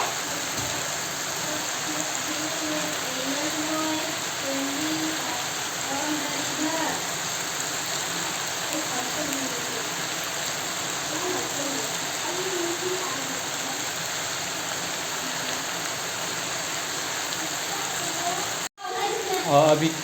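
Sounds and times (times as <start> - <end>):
food frying in a pan: 0.0 - 20.0.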